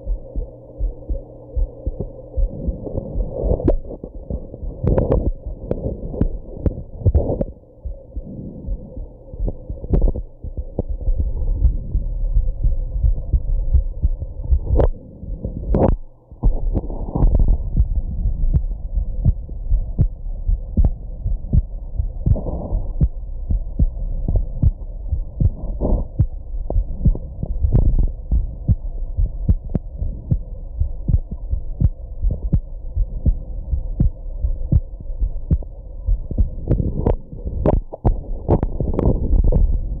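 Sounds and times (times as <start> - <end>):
heartbeat thumps: 0.0 - 40.0
soft noisy sounds: 0.0 - 40.0.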